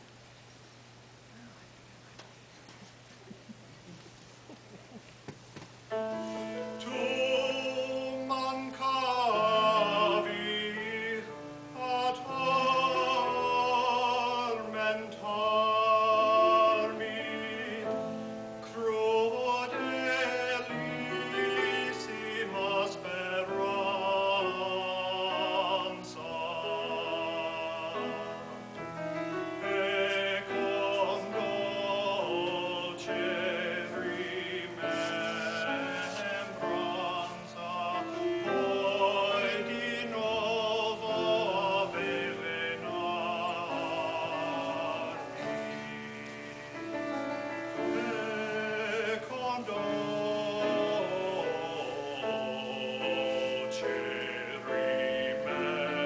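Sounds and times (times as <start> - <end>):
piano accompaniment: 5.8 - 56.0
classical voice singing with vibrato: 5.9 - 56.0.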